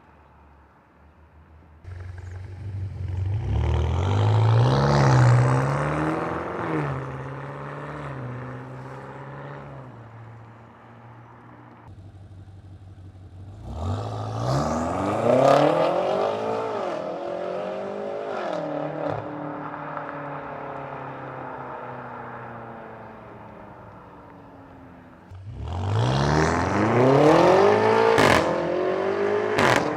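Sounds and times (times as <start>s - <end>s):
car engine accelerating: 1.9s - 10.0s, 11.9s - 29.9s.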